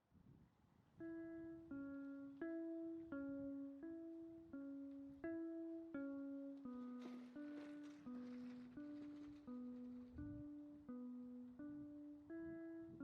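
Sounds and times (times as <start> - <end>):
plucked-string melody: 1.0 - 13.0.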